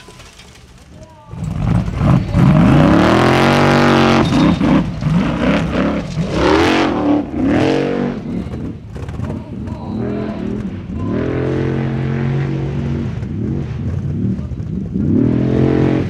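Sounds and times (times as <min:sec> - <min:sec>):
wheels spinning on dirt: 0:00.0 - 0:16.0
buggy engine revving hard: 0:01.3 - 0:16.0.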